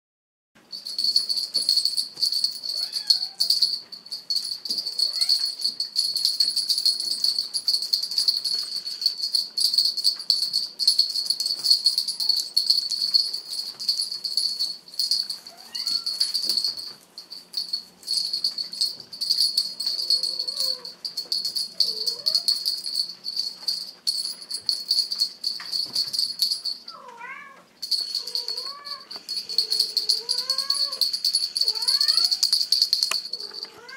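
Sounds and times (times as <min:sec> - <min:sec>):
small jingle bell ringing: 0:00.7 - 0:33.9.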